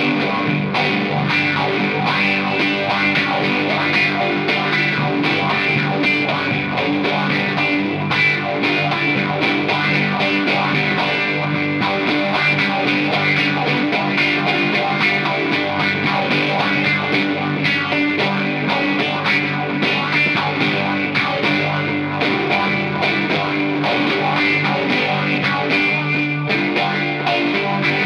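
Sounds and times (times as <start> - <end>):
distorted electric guitar lead: 0.0 - 28.0
steady rock beat: 0.0 - 28.0.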